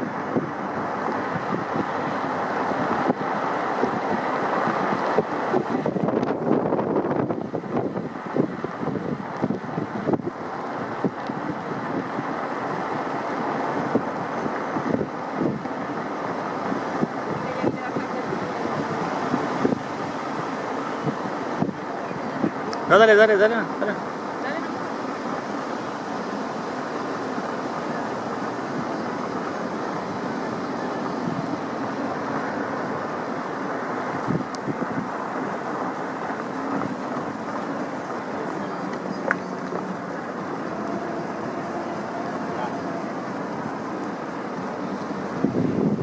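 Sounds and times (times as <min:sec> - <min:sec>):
jet engines roaring: 0:00.0 - 0:46.0
wind buffeting microphone: 0:00.0 - 0:46.0.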